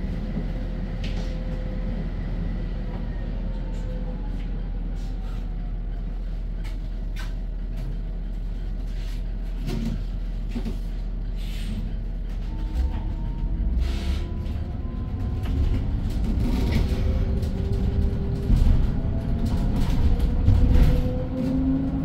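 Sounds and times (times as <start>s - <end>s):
bus cabin low rumble: 0.0s - 22.0s.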